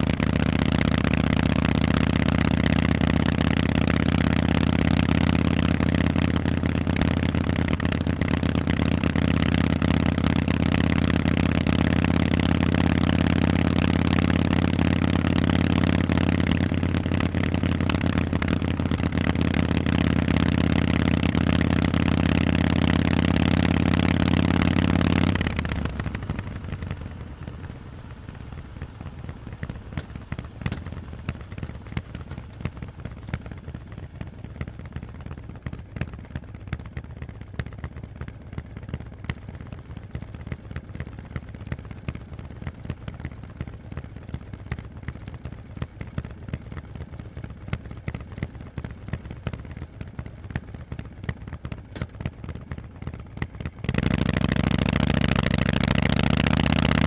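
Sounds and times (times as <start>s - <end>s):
motorcycle engine running: 0.0s - 57.0s
motorcycle idling: 0.0s - 57.0s.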